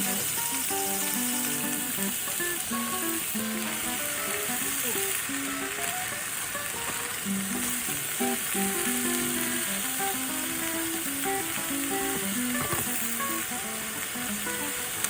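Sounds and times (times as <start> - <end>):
food sizzling: 0.0 - 15.0.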